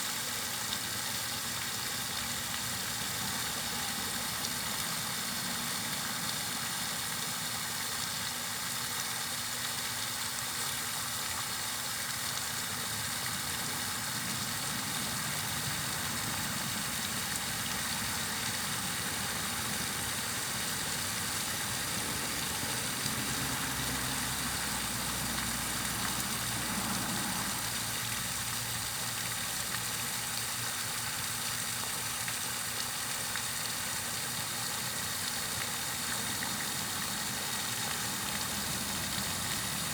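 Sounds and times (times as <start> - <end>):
white-noise hiss: 0.0 - 39.9.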